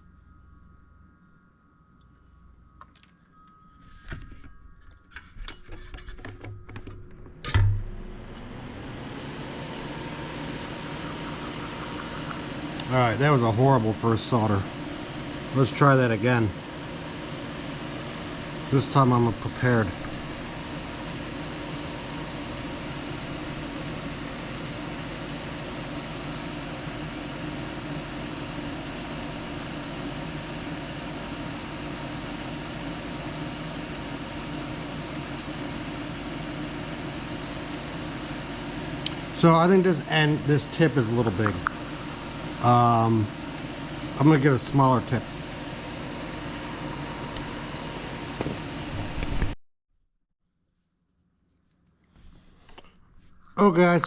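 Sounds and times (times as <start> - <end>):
fan whooshing: 3.3 - 31.5, 32.6 - 49.5.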